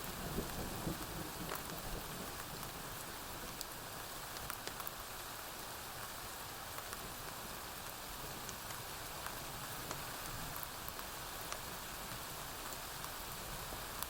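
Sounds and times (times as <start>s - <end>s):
rain on a porch roof: 0.0s - 14.0s
sharp ticks of rain: 0.0s - 14.0s.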